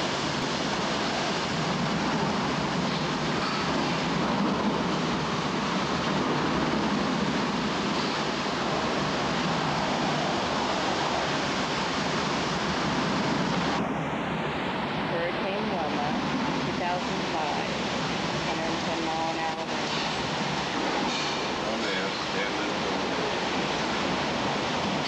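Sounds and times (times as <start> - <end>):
heavy rain: 0.0 - 25.0
hurricane-force wind: 0.0 - 25.0.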